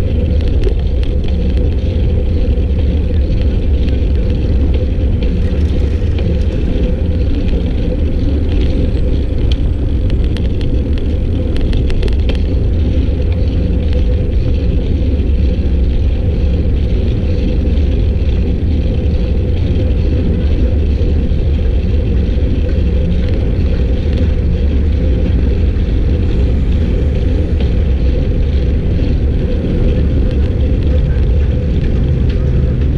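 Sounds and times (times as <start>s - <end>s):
wind rumble on microphone: 0.0s - 32.9s.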